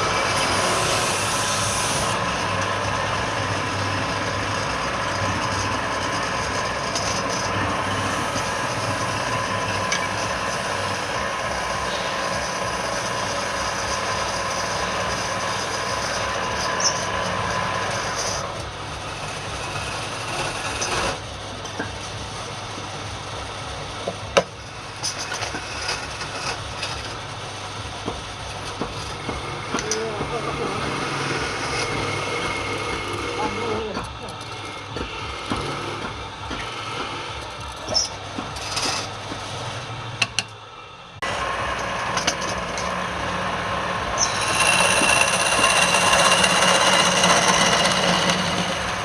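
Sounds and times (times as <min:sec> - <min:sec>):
wood lathe humming: 0:00.0 - 0:49.0.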